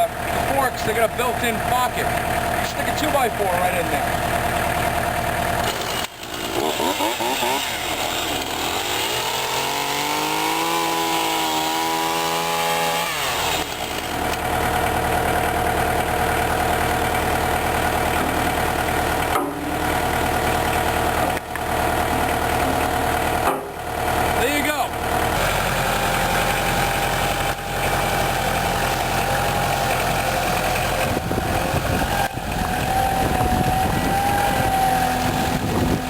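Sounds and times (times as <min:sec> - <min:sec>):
tractor engine revving: 0:00.0 - 0:36.0.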